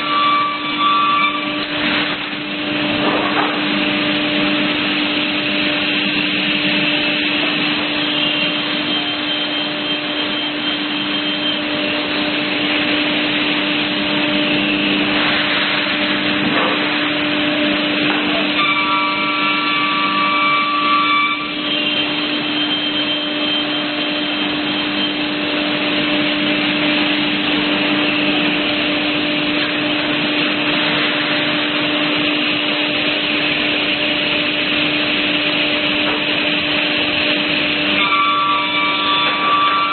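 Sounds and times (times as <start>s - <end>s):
panel saw running: 0.0s - 39.9s.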